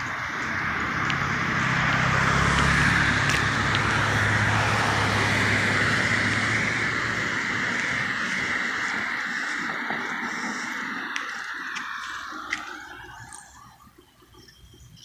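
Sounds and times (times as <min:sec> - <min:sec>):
car engine hum and tyre noise: 0:00.0 - 0:15.0.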